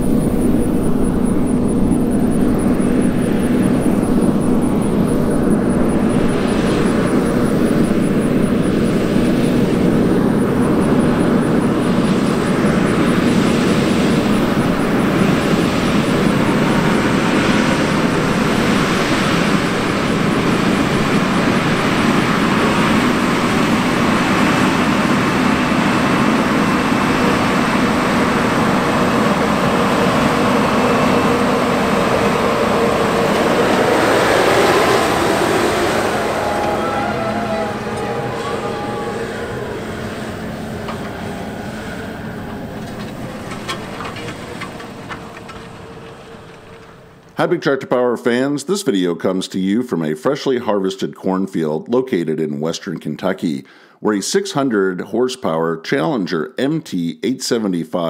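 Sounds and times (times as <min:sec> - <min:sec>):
tracks and disk blades in soil: 0:00.0 - 0:47.4
tractor diesel engine drone: 0:00.0 - 0:48.5.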